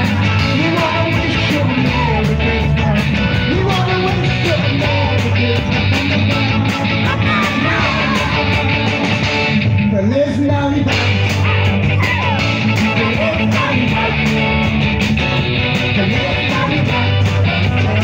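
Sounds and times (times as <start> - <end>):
group singing: 0.0 - 9.5, 10.9 - 18.0
strummed guitars: 0.0 - 18.0.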